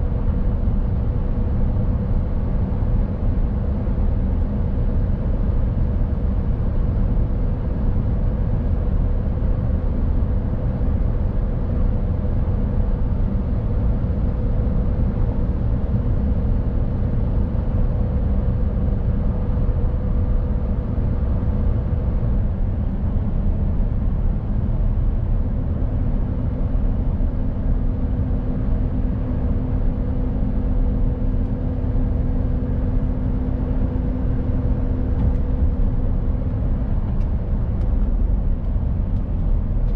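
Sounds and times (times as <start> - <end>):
constant whine: 0.0 - 39.9
truck diesel and road rumble: 0.0 - 39.9.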